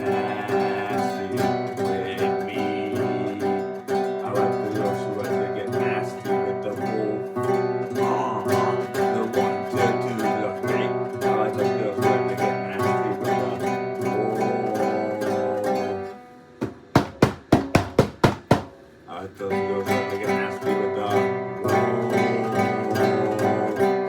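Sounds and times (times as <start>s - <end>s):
acoustic guitar strummed and plucked: 0.0s - 24.0s.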